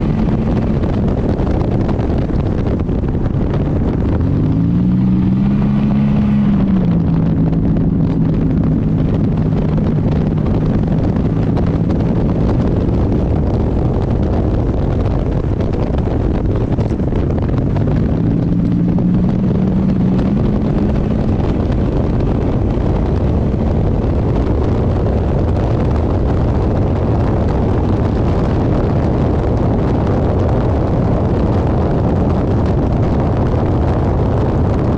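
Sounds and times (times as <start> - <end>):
race car engine running hard: 0.0 - 34.9
wind and road noise: 0.0 - 34.9.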